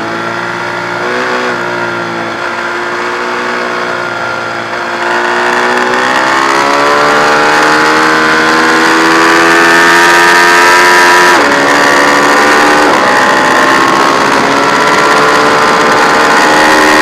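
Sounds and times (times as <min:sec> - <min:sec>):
motorcycle engine accelerating hard: 0:00.0 - 0:17.0.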